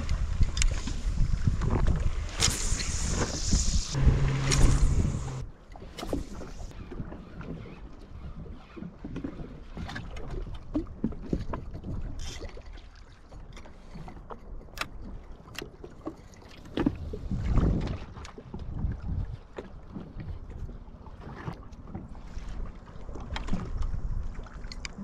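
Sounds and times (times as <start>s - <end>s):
water slapping against a hull: 0.0s - 25.0s.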